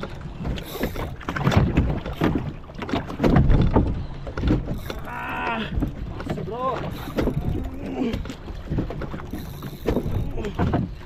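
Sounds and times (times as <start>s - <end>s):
waves slapping boat hull: 0.0s - 11.0s.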